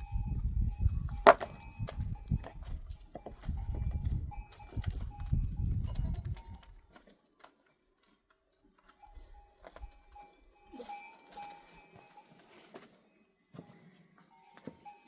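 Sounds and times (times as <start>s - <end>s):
livestock bells clinking: 0.0s - 6.9s, 8.6s - 15.0s.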